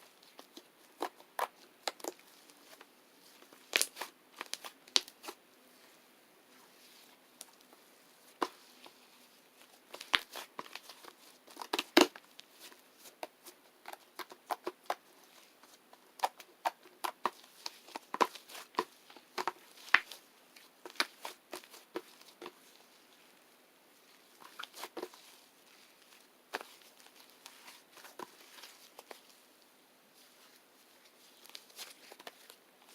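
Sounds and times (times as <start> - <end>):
crinkling: 0.0 - 32.9.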